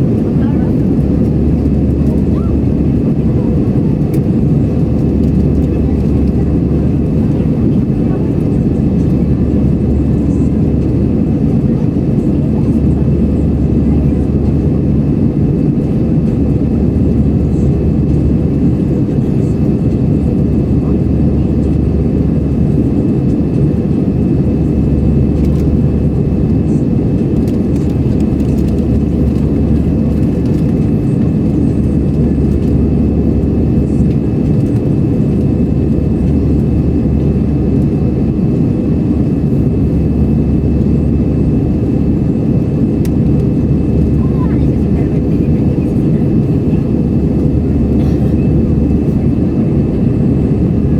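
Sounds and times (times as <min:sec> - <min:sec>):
jet engines and airflow rumble: 0:00.0 - 0:50.9.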